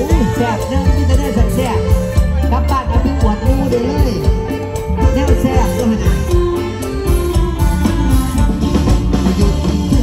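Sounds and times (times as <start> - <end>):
live band with drums and keyboards: 0.0 - 10.0.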